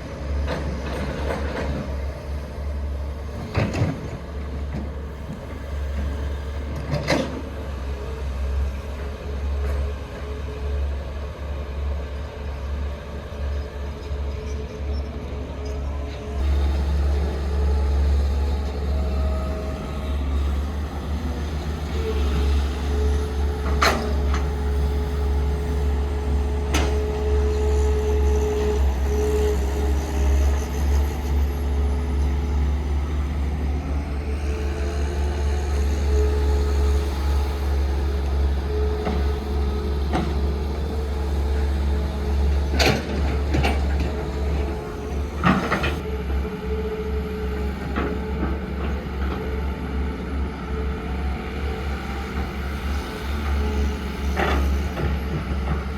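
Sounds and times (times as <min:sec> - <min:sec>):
diesel machinery rumbling: 0:00.0 - 0:55.9.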